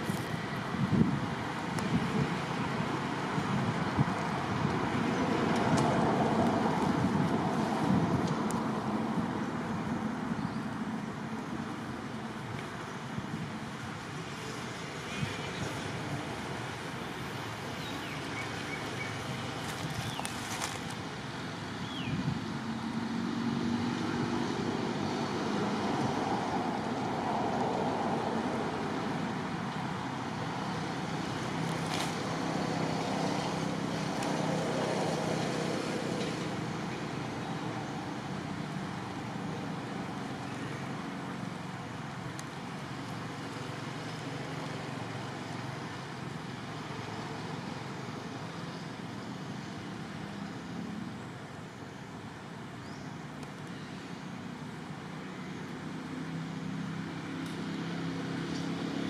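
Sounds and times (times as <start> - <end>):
traffic engine hum: 0.0 - 59.0.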